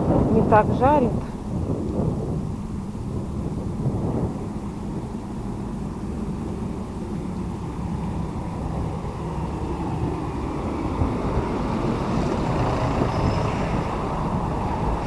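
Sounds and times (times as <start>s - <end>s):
road traffic rumble: 0.0s - 15.0s
vehicle passing: 1.6s - 15.0s.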